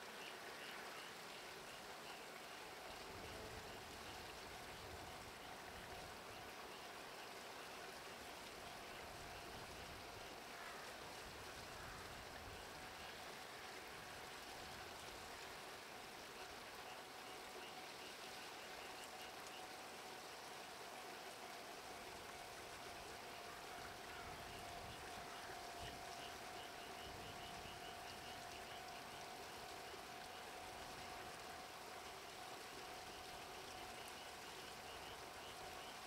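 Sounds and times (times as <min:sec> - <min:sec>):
faint outdoor hiss: 0:00.0 - 0:36.0.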